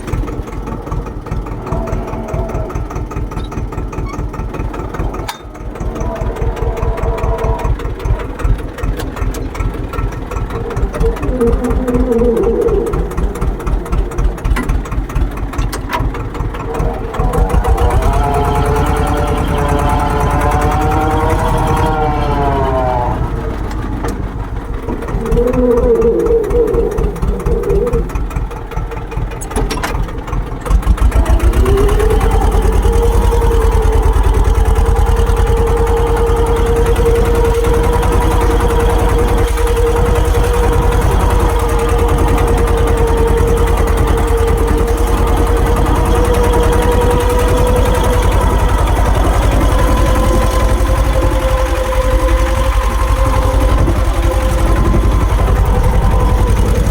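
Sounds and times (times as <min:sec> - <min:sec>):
constant engine whine: 0:00.0 - 0:56.9
tractor diesel engine running: 0:00.0 - 0:56.9.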